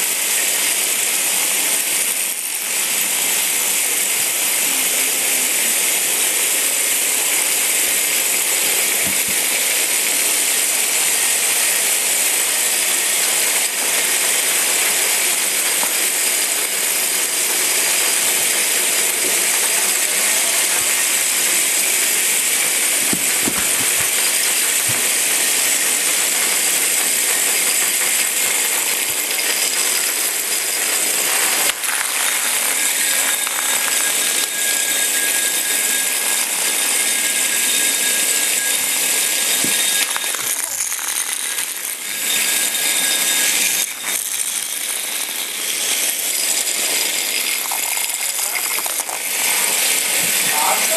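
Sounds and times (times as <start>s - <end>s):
toy robots buzzing and rattling: 0.0s - 50.9s.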